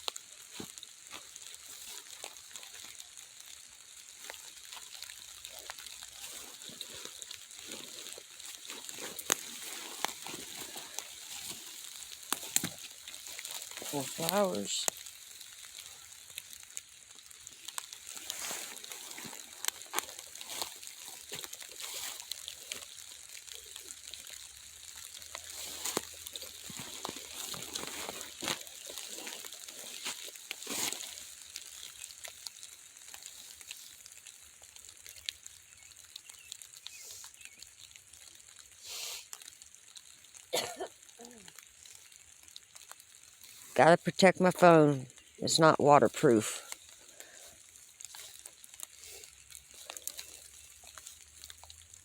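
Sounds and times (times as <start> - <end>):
heavy rain in woodland: 0.0 - 52.0.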